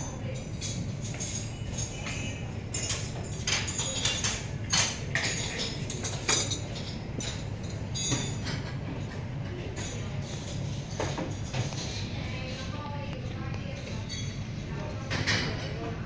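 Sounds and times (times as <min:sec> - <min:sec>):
dishes and cutlery clattering: 0:00.0 - 0:16.0.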